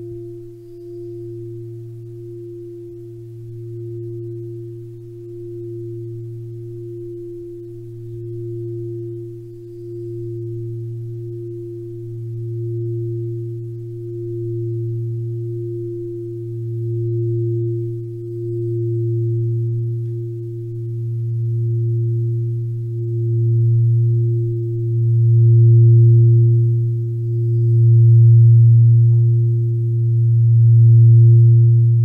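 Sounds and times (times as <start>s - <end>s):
low drone of relaxation music: 0.0s - 32.0s.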